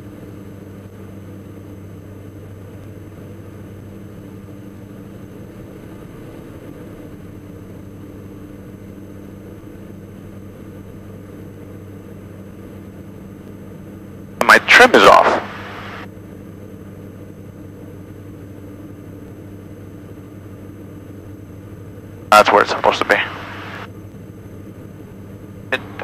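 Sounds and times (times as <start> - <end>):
aircraft engines droning in cockpit: 0.0 - 26.0.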